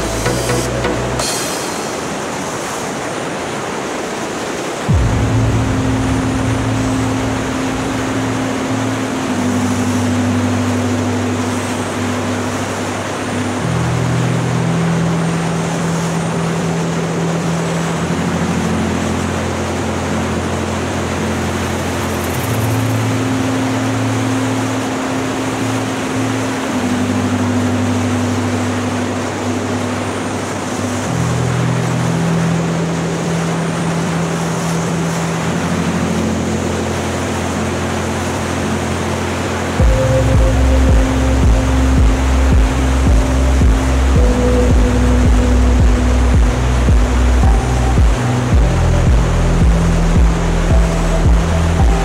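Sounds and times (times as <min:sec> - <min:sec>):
music of long held chords: 0:00.0 - 0:03.7, 0:04.7 - 0:52.0.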